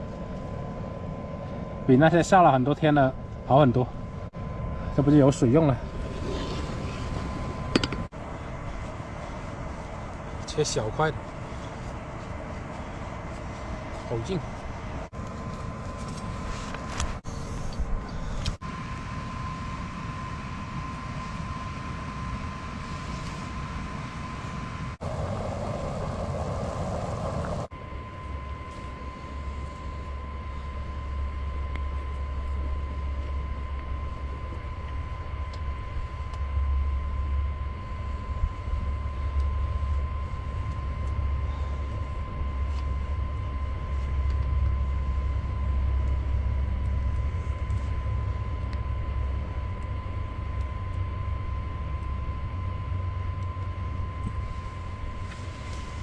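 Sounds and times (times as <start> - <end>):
electric blower fan whine: 0.0 - 56.0
fire rumbling: 0.0 - 56.0.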